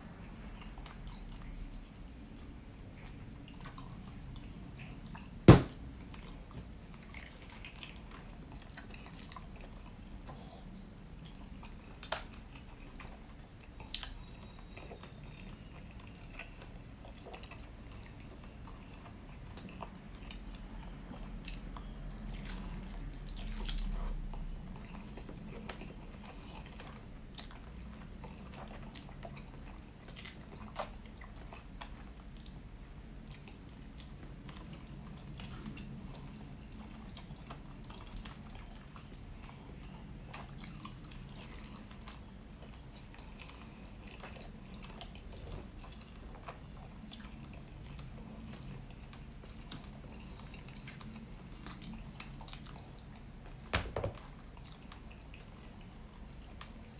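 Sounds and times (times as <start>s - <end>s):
close chewing with mouth smacks: 0.0s - 56.9s.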